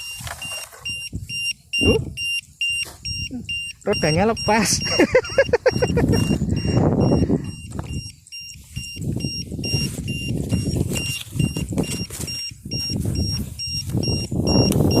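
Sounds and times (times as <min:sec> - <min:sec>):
electronic beeper high beeps: 0:00.0 - 0:15.0
wind buffeting microphone: 0:00.9 - 0:02.4, 0:03.0 - 0:15.0.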